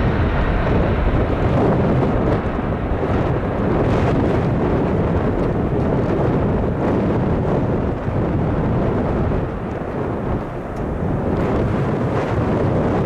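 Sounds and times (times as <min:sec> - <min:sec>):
jet engines on take-off roll: 0:00.0 - 0:13.0.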